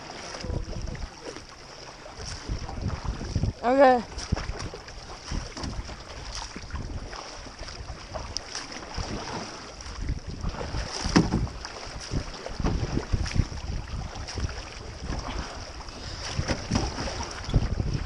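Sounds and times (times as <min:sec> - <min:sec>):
paddle splashing in water: 0:00.0 - 0:18.0
wind rumbling on microphone: 0:00.0 - 0:18.0.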